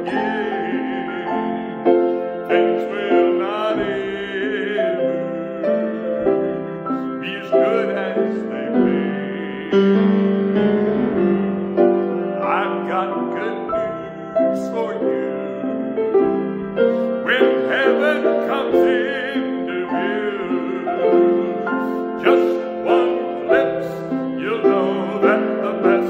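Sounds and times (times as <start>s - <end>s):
man singing gospel: 0.0s - 10.2s, 12.4s - 16.1s, 16.8s - 26.0s
grand piano chords: 0.0s - 26.0s.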